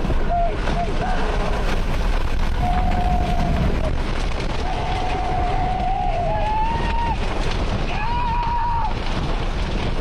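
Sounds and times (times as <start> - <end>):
rain and debris pelting car: 0.0 - 10.0
winds roaring: 0.0 - 10.0.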